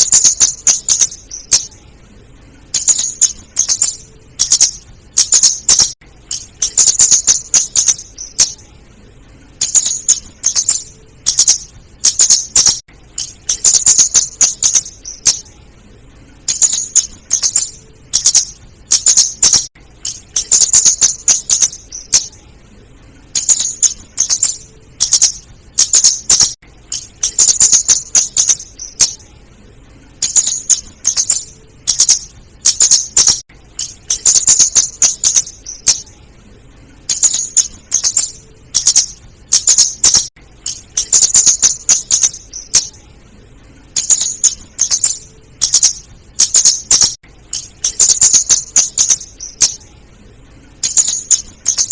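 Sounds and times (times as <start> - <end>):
bird calling high sharp chips: 0.0 - 1.8, 2.7 - 8.6, 9.6 - 15.5, 16.4 - 22.4, 23.3 - 29.2, 30.2 - 36.1, 37.1 - 43.0, 44.0 - 49.8, 50.8 - 51.9.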